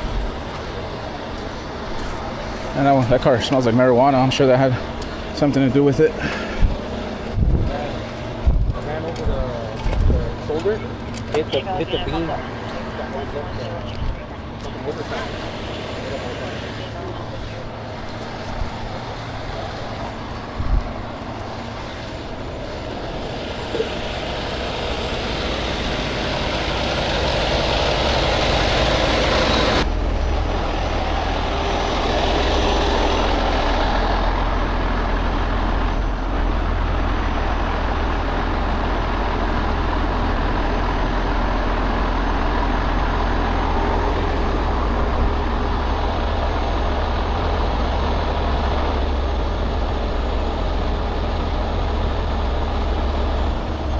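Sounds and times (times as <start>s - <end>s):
heavy truck engine running: 0.0s - 53.9s.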